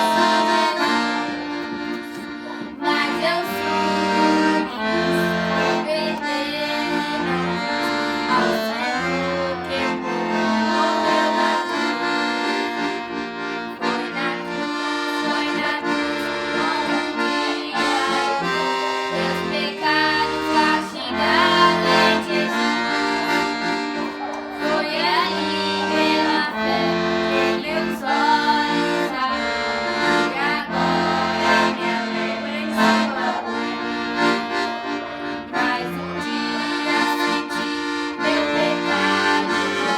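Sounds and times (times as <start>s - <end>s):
accordion melody: 0.0s - 39.9s.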